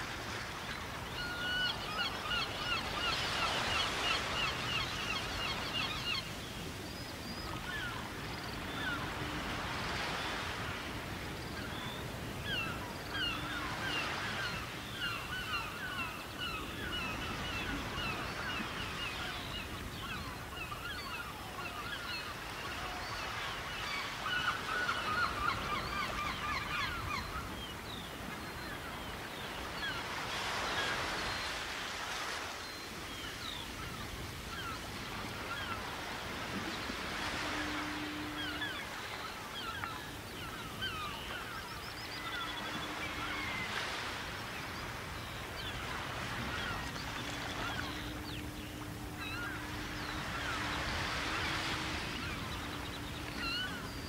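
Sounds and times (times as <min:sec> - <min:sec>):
surf washing on shore: 0:00.0 - 0:54.0
seabirds chirping: 0:00.1 - 0:54.0.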